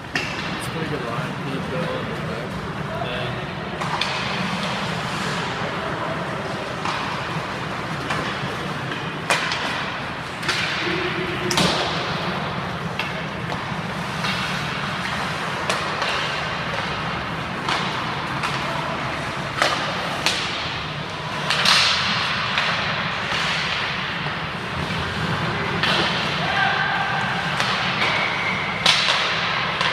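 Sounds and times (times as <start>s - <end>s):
pucks striking boards: 0.0s - 0.8s, 3.8s - 29.9s
hockey sticks hitting pucks: 0.0s - 3.0s, 3.7s - 29.9s
skates scraping ice: 0.0s - 29.9s.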